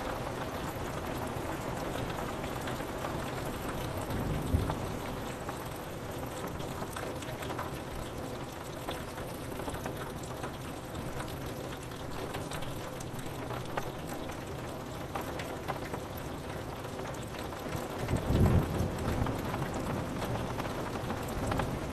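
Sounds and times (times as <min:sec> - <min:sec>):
rain drops tapping on window glass: 0:00.0 - 0:21.9.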